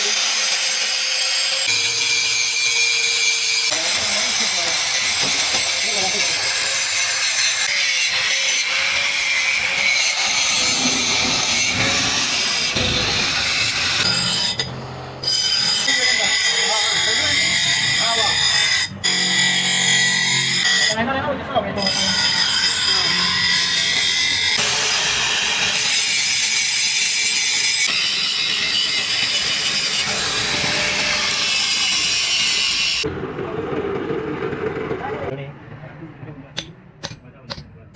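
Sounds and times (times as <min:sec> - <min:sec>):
tool rasping metal: 0:00.0 - 0:21.1, 0:21.8 - 0:33.1.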